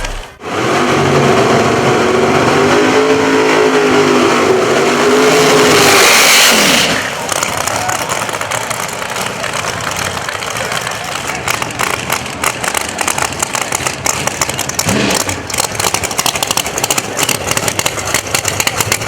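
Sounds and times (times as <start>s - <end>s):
racing car engines howling: 0.0s - 19.0s.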